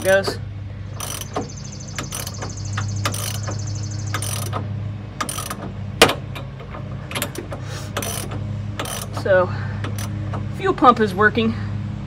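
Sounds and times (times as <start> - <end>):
engine cranking without firing: 0.0 - 11.2.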